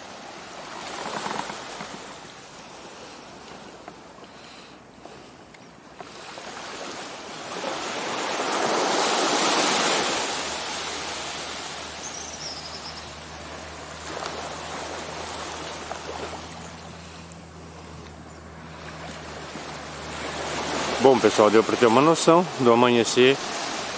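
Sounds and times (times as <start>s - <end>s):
small waves washing on sand: 0.0s - 23.9s.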